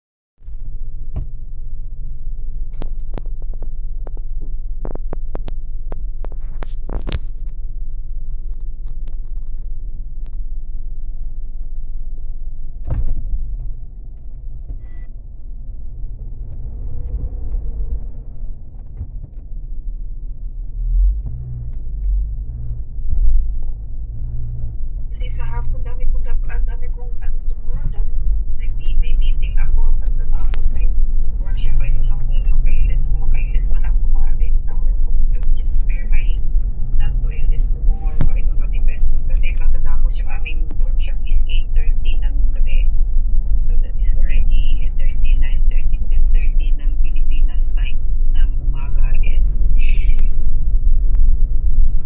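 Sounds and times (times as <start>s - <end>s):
car engine rumbling: 0.4s - 52.0s.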